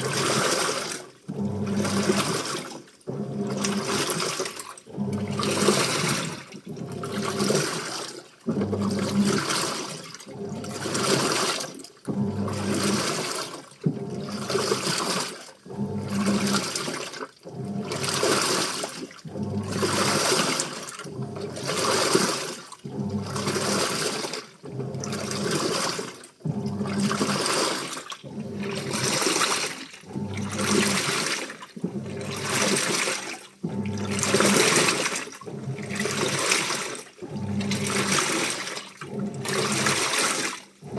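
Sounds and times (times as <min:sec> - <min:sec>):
washing machine sloshing: 0:00.0 - 0:40.9.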